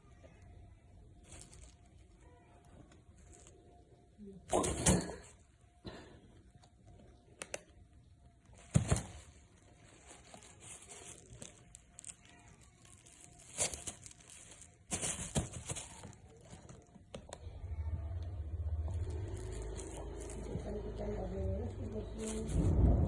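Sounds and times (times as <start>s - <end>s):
rustling and crinkling: 0.1s - 5.6s, 6.6s - 23.0s.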